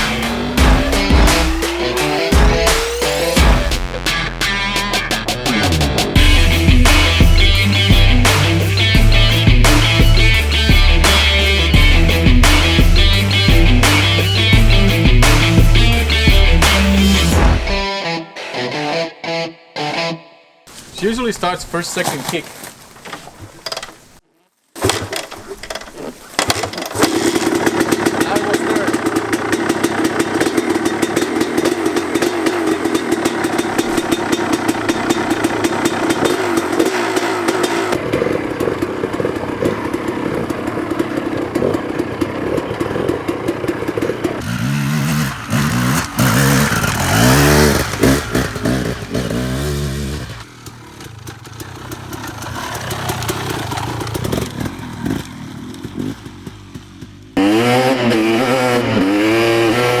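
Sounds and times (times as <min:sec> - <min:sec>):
dirt bike engine revving: 0:00.0 - 0:04.0, 0:05.5 - 0:17.8, 0:20.7 - 0:24.2, 0:24.8 - 1:00.0.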